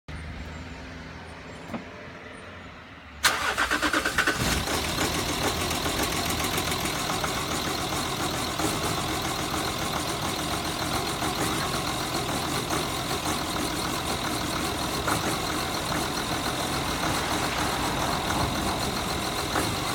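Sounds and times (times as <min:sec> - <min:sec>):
diesel engine starting and idling: 0:03.2 - 0:19.9.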